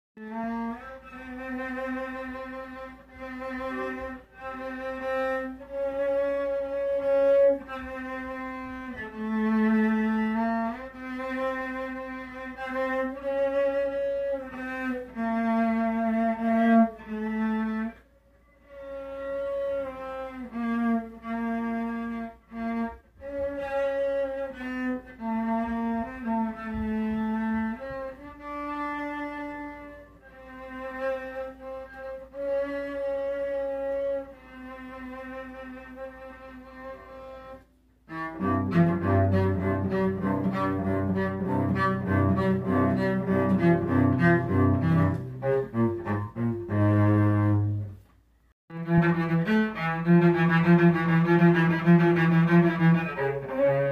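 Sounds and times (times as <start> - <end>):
bowed cello: 0.2 - 48.0, 48.7 - 53.9.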